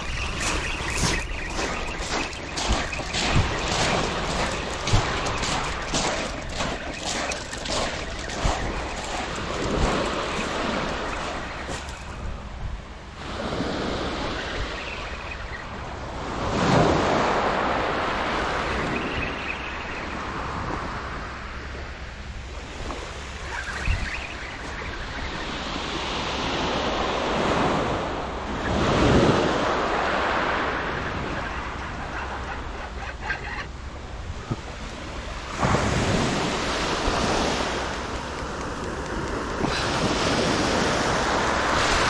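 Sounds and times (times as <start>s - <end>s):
waves washing on shingle beach: 0.0s - 42.0s.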